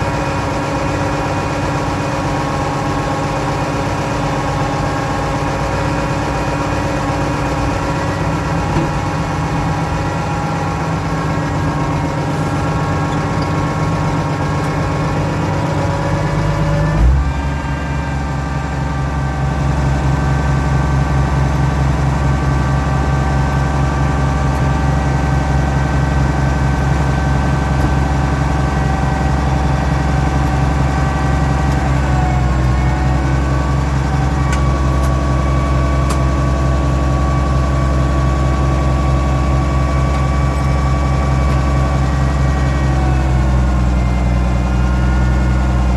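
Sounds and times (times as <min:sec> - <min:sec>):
hydraulics whining: 0:00.0 - 0:45.9
tractor engine running: 0:00.0 - 0:45.9.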